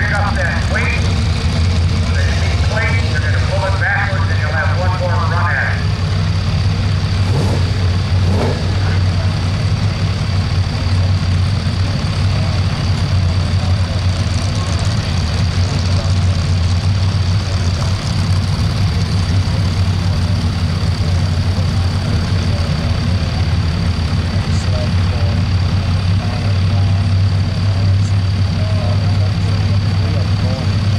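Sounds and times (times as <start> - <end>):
truck engine running loud: 0.0 - 30.9.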